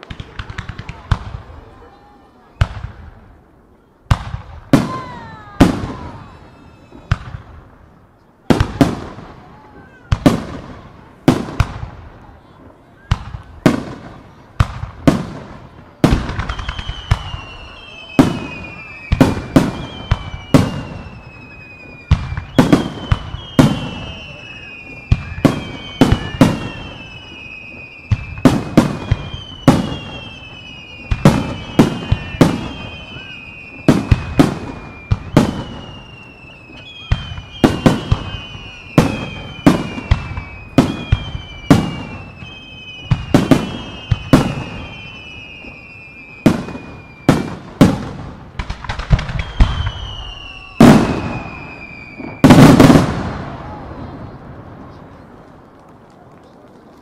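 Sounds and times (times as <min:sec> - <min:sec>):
descending fireworks whistles: 0:00.0 - 0:03.2, 0:04.1 - 0:55.8.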